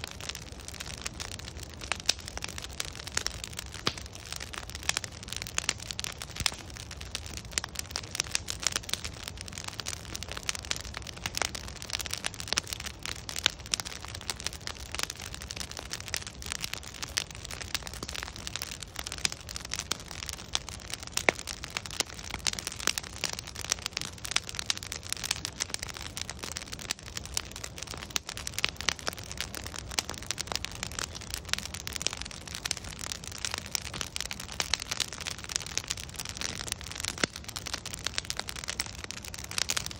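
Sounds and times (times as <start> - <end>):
logs crackling and popping: 0.0 - 39.9
low rumble of flame: 0.0 - 39.9.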